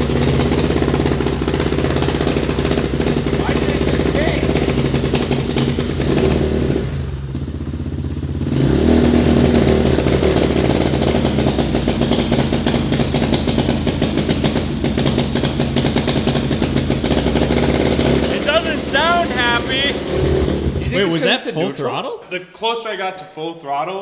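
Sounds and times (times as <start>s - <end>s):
motorbike engine running: 0.0s - 21.1s.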